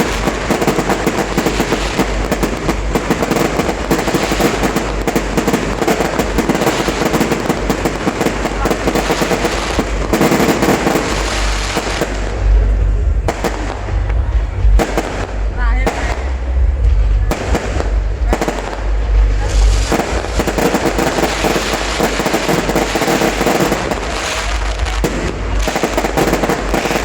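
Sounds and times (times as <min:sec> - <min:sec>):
deep fireworks booms: 0:00.0 - 0:27.0
fireworks crackling and popping: 0:00.0 - 0:27.0.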